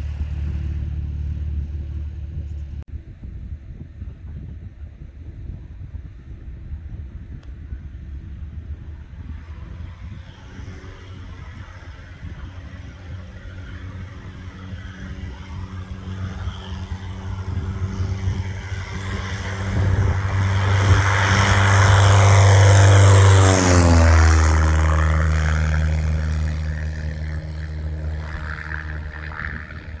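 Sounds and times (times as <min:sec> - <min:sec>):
propeller airplane passing: 0:00.0 - 0:02.9, 0:06.5 - 0:30.0.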